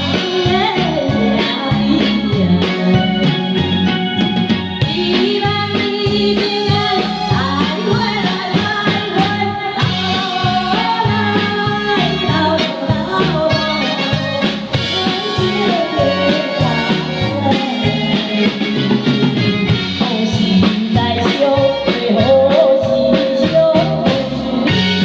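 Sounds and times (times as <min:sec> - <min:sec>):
woman singing into a microphone: 0:00.0 - 0:03.8, 0:04.8 - 0:18.9, 0:19.7 - 0:25.0
backing music with drum beat: 0:00.0 - 0:25.0.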